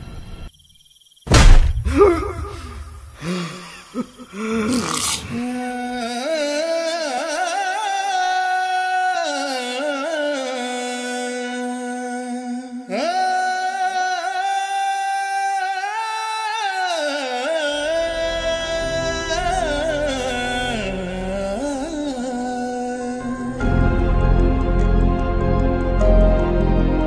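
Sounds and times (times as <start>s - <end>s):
slow sung melody: 3.2s - 27.0s.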